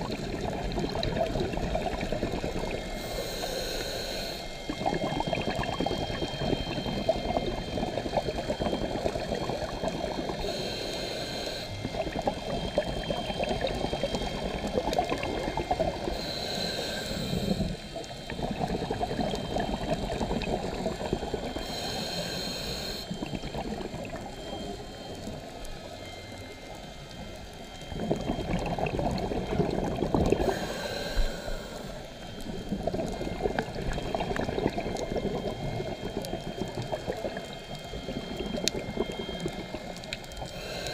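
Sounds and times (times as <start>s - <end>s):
underwater air bubbles gurgling: 0.0s - 40.9s
regulator hiss: 0.1s - 28.6s, 30.0s - 40.9s.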